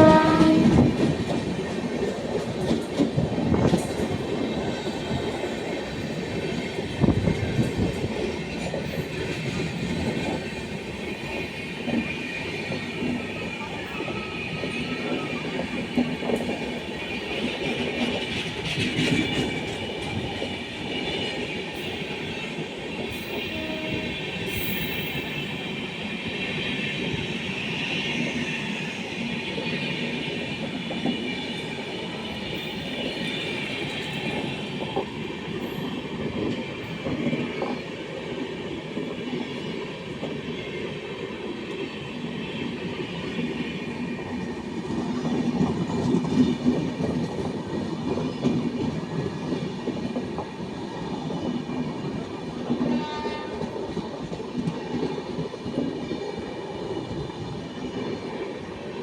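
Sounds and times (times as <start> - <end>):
train wheels clickety-clack on rails: 0.0 - 59.0.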